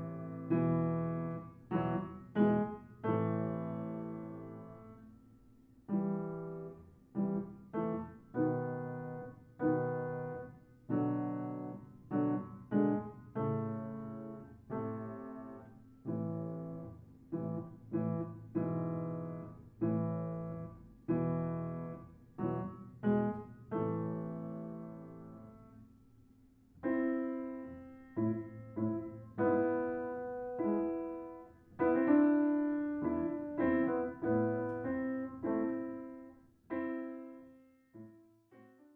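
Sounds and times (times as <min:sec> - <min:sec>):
slow piano chords: 0:00.0 - 0:38.9.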